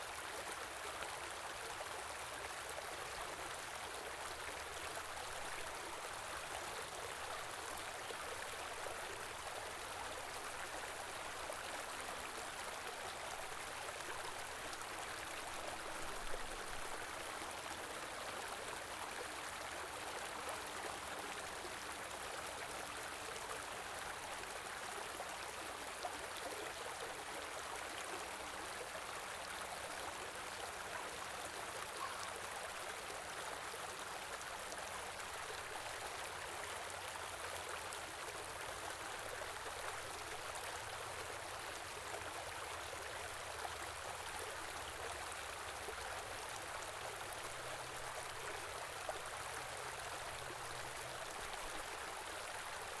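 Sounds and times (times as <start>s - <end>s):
stream running over rocks: 0.0s - 53.0s.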